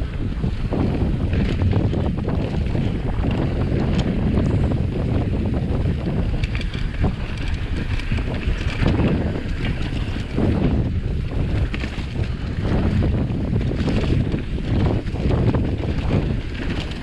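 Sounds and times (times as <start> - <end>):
tyres rolling on dirt trail: 0.0 - 17.0
wind buffeting microphone: 0.0 - 17.0.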